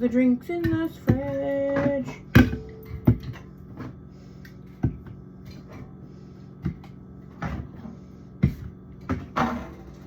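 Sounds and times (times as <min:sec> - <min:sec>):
refrigerator hum: 0:00.0 - 0:10.0.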